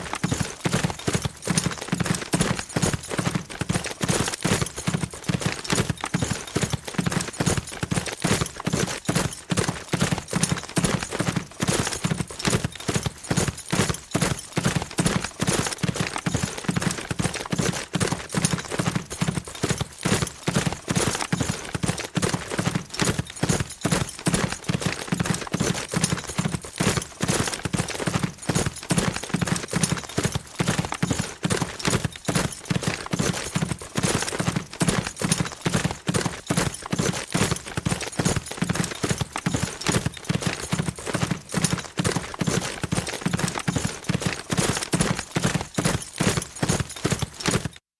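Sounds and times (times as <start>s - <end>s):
horse hoofbeats galloping: 0.0s - 47.8s.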